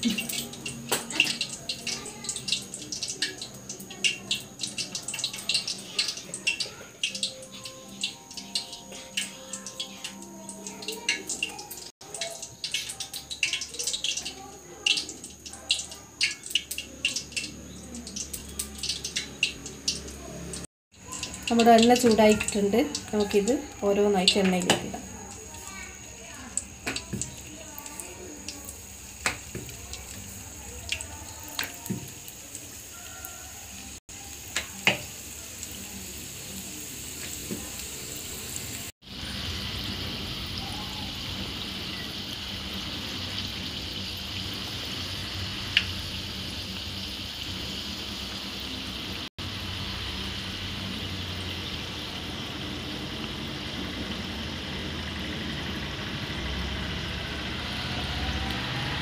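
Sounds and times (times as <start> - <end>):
oil sizzling and popping: 0.0 - 58.9.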